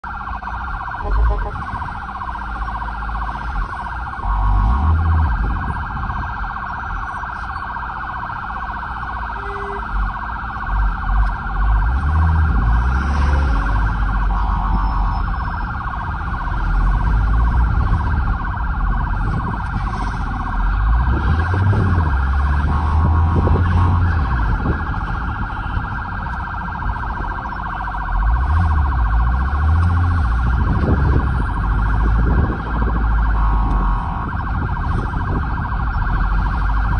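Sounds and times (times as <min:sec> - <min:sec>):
electronic siren yelping: 0:00.0 - 0:36.9.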